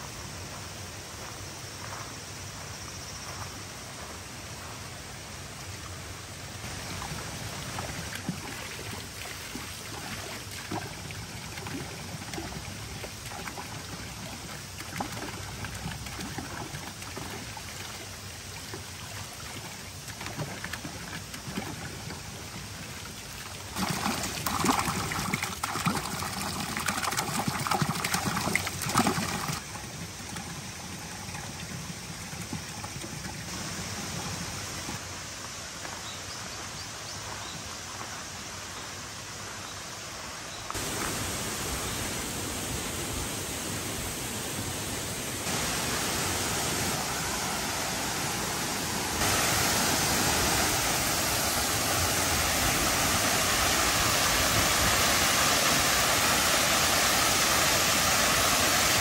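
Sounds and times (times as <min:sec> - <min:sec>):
stream trickling over rocks: 0:03.3 - 0:59.0.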